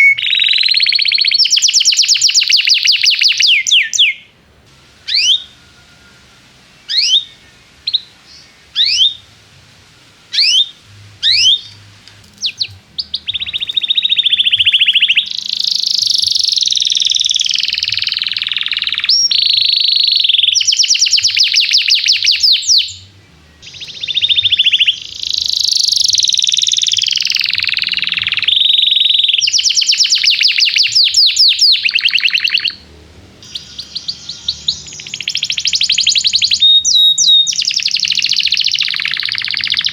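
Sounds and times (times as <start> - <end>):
canary chirps: 0.0 - 39.9
canary song trills: 0.0 - 39.9.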